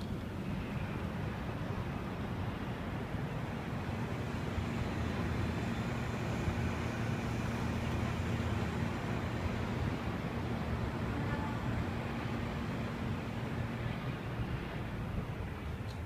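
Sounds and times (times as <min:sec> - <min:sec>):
distant city traffic rumble: 0:00.0 - 0:16.0.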